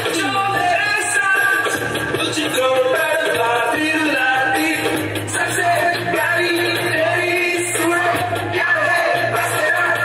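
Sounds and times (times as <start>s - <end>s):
song with singing over bass: 0.0s - 10.0s.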